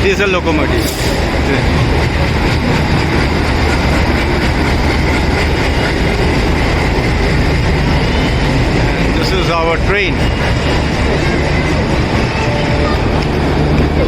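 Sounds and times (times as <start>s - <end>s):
diesel locomotive engine rumble: 0.0s - 14.0s
train coaches rolling: 0.0s - 14.0s.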